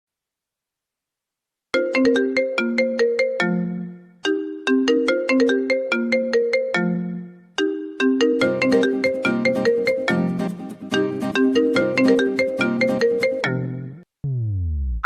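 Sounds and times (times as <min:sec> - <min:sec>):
marimba ringtone melody: 0:01.8 - 0:14.0.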